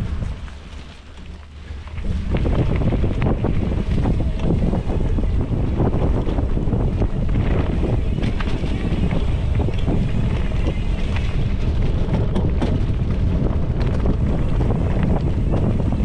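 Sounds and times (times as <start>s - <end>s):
bike tyres rumbling on dirt: 0.0s - 16.0s
wind on microphone: 0.0s - 16.0s.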